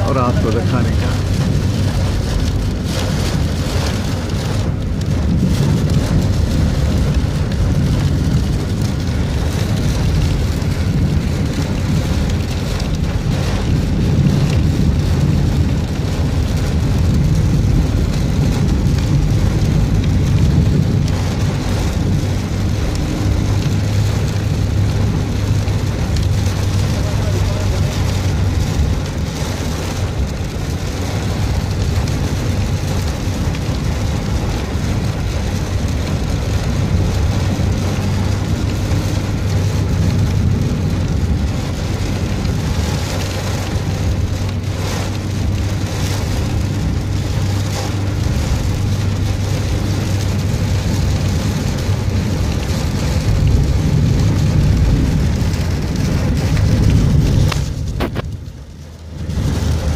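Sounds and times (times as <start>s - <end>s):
engine humming: 0.0s - 59.9s
heavy rain pelting a car: 0.0s - 59.9s
wet road noise: 0.0s - 59.9s.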